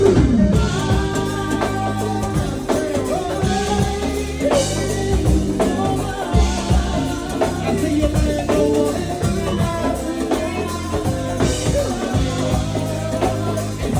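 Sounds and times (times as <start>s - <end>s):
bass notes: 0.0s - 13.9s
drum kit beat: 0.0s - 13.9s
live jazz band: 0.0s - 13.9s.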